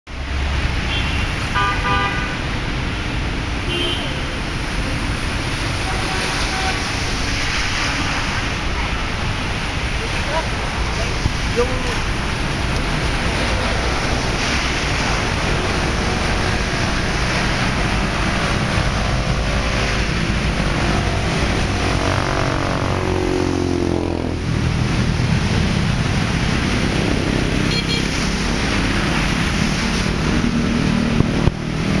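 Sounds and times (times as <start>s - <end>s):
traffic on a wet road: 0.1s - 32.0s
vehicle passing by: 4.4s - 32.0s.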